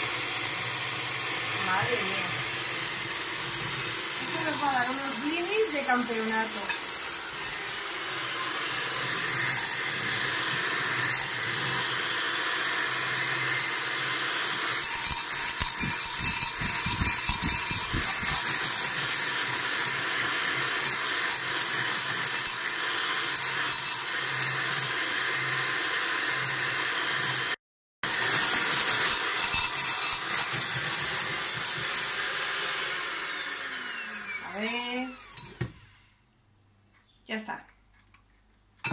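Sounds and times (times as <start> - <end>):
electric hand mixer whisking: 0.0 - 36.0.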